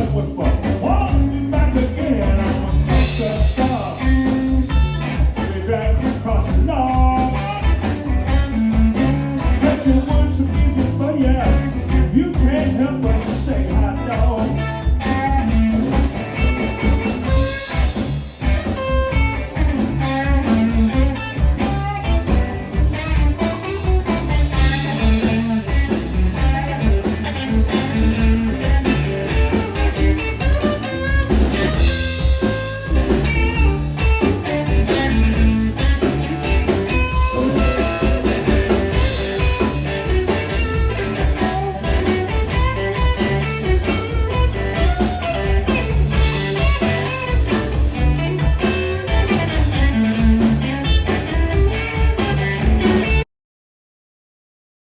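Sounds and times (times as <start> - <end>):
blues band instrumental: 0.0 - 53.3.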